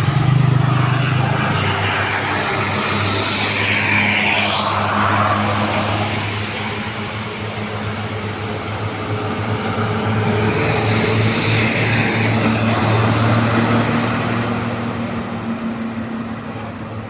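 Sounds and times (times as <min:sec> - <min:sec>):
heavy vehicle engine humming: 0:00.0 - 0:17.0
road and wind noise: 0:00.0 - 0:17.0.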